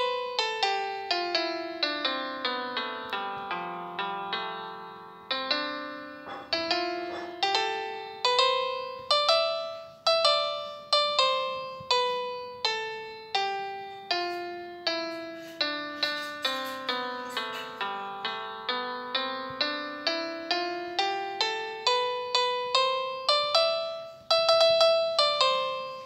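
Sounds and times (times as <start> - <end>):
slow piano melody: 0.0 - 26.0.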